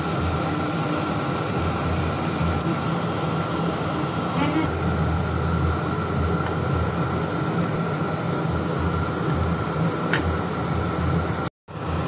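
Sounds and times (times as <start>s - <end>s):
thin steady hum: 0.0s - 12.0s.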